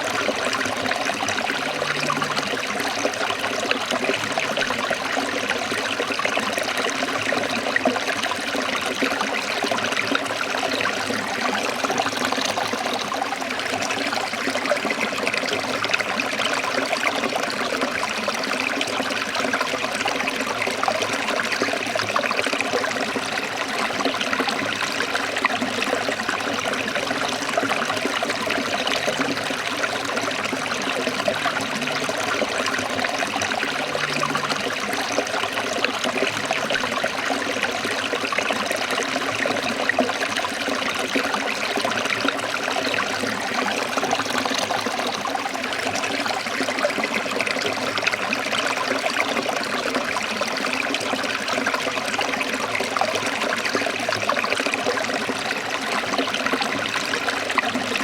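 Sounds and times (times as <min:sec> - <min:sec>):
stream trickling and splashing: 0:00.0 - 0:58.0.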